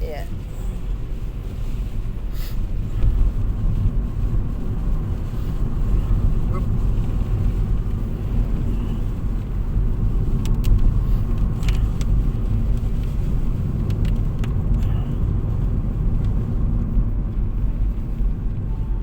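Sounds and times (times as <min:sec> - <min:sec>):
engine and road rumble: 0:00.0 - 0:19.0.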